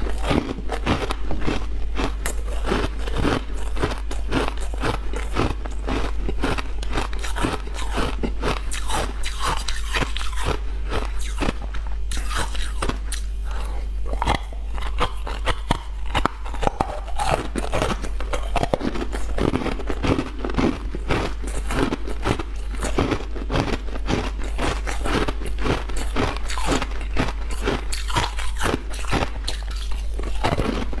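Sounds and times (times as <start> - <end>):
ice balls being chewed: 0.0 - 31.0.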